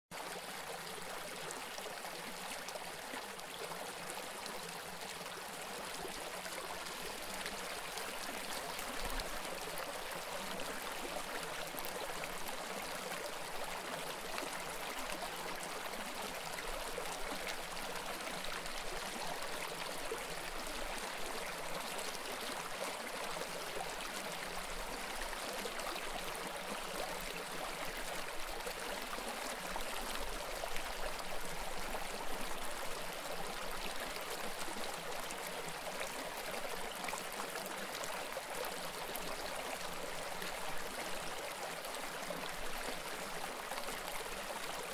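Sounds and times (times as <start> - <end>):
creek flowing over rocks: 0.1 - 44.9.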